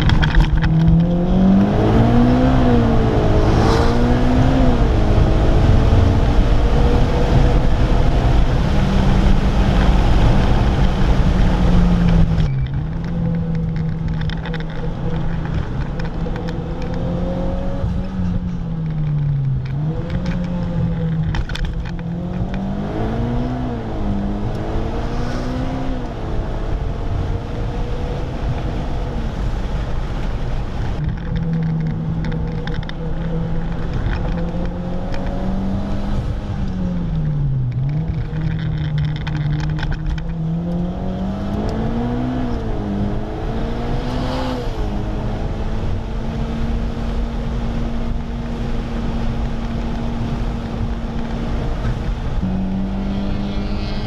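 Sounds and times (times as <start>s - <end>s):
car engine from inside cabin: 0.0s - 54.0s
wind and road noise: 0.0s - 54.0s.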